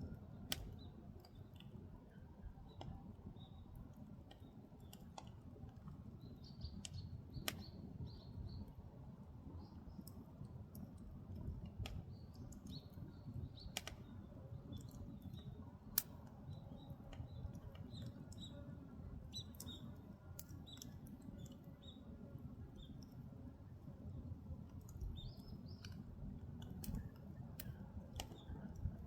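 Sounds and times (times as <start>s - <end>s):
firewood crackling and popping: 0.1s - 23.8s, 24.4s - 29.0s.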